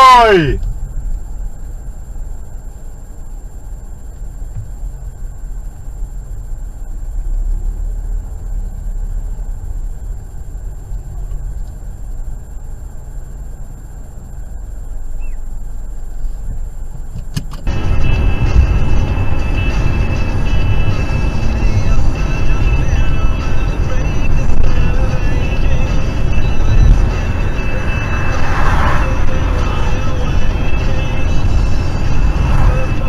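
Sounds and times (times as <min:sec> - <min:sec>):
car engine and tyre noise: 0:00.0 - 0:33.0
faint high whine: 0:00.0 - 0:33.0.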